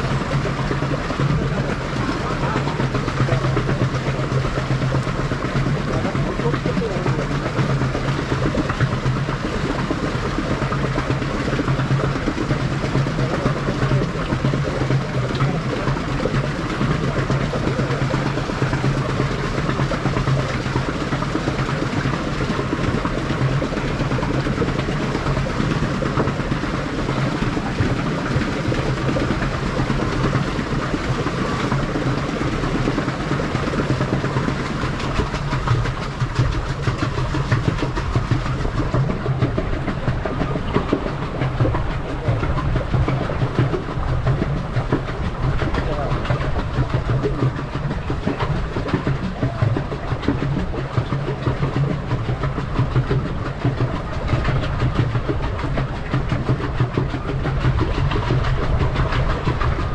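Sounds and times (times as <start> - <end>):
low hum: 0.0 - 59.9
water churning and splashing: 0.0 - 59.9.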